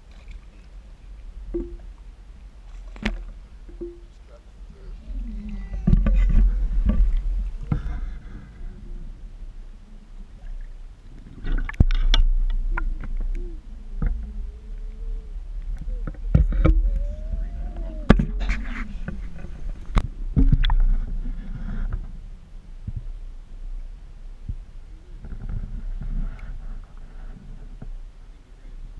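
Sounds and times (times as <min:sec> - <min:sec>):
water sloshing and gurgling: 0:00.0 - 0:23.3, 0:23.9 - 0:28.2
deep rumble: 0:00.0 - 0:28.9.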